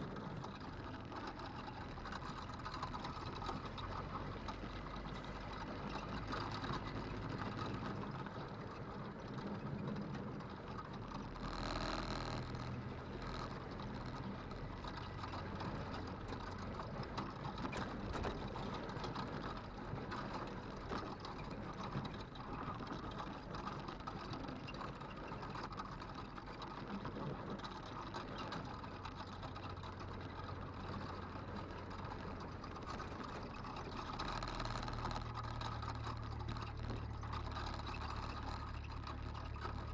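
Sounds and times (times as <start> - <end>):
rattling and clicking: 0.0 - 39.9
vehicle engine running: 0.0 - 39.9.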